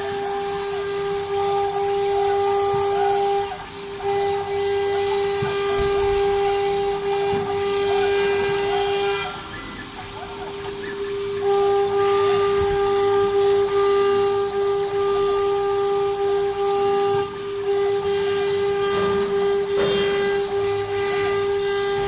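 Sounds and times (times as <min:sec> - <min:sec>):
hissy cutting noise: 0:00.0 - 0:22.0
spindle high whine: 0:00.0 - 0:22.0.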